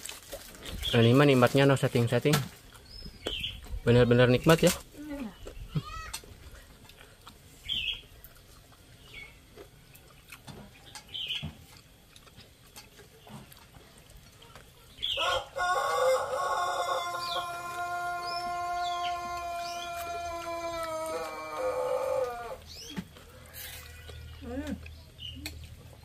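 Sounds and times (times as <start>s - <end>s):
chickens clucking: 3.0s - 26.0s.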